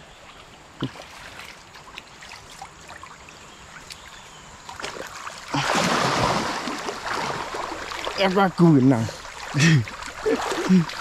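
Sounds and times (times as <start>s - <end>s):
man wading through water: 0.2s - 11.0s
water trickling: 0.3s - 11.0s.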